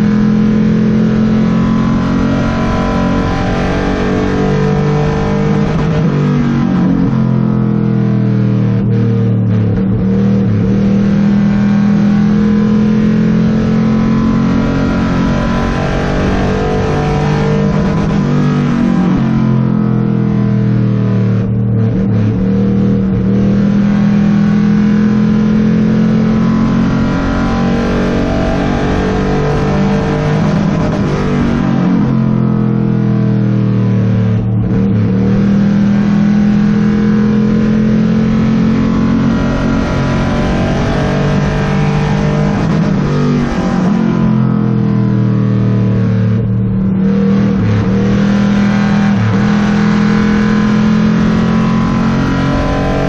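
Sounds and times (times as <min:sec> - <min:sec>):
race car engine: 0:00.0 - 0:53.0.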